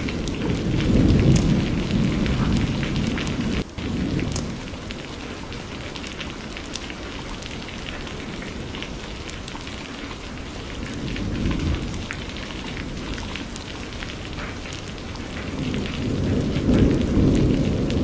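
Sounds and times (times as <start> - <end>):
thunder rumble: 0.0 - 7.0, 10.2 - 18.0
rain drops ticking: 0.0 - 18.0.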